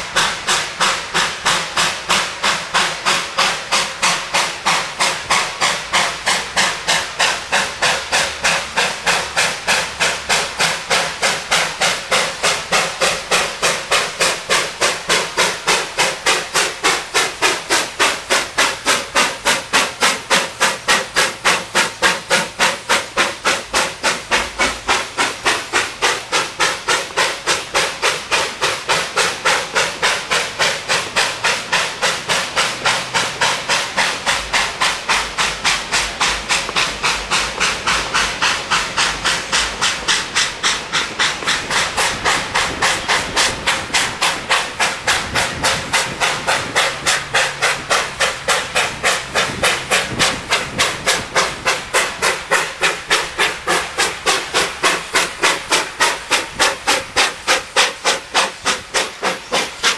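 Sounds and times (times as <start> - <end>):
steam locomotive exhaust chuffs: 0.0 - 59.9.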